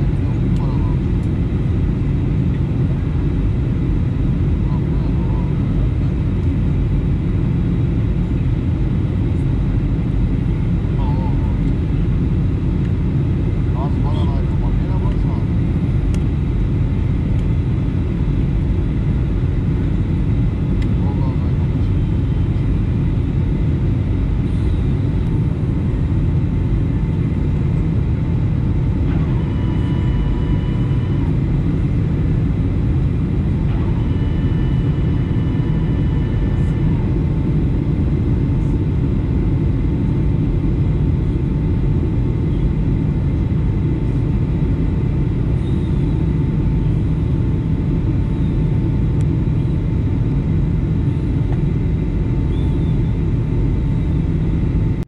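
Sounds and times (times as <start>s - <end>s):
faint steady whine: 0.0s - 55.0s
jet engine roar in cabin: 0.0s - 55.0s.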